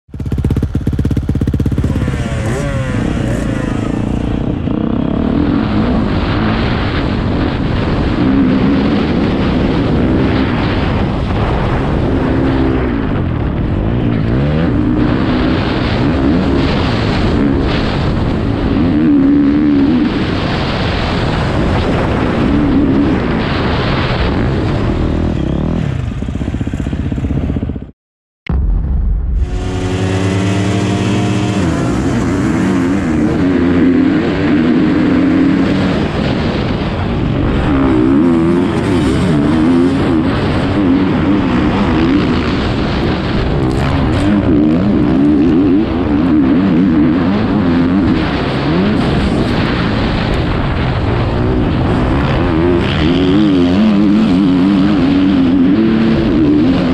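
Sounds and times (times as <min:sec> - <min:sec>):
motocross bike engine revving: 0:00.1 - 0:27.9, 0:29.4 - 0:56.9.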